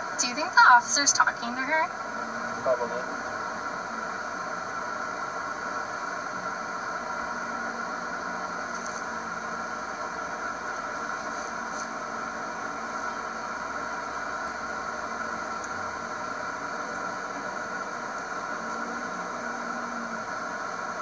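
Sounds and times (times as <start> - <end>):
car cabin hiss and hum: 0.0 - 21.0.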